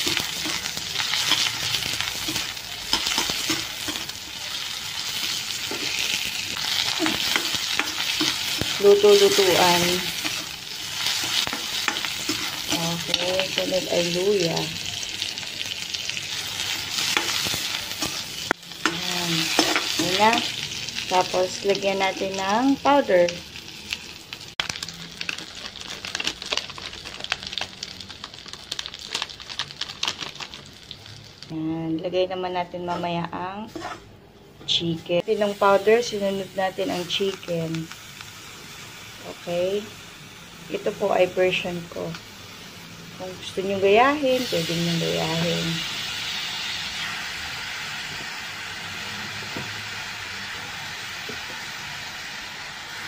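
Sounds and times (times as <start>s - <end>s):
food crackling in oil: 0.0s - 32.8s, 35.1s - 53.0s.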